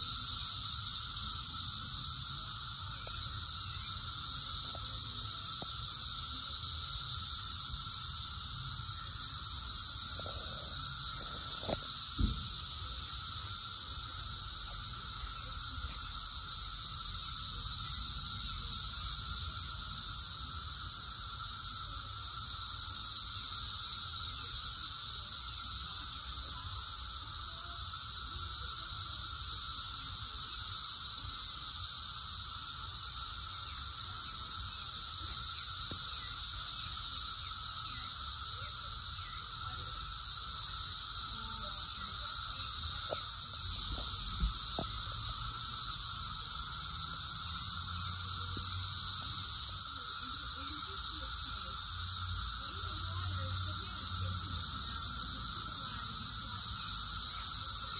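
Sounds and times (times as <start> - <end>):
cicadas droning: 0.0 - 57.9.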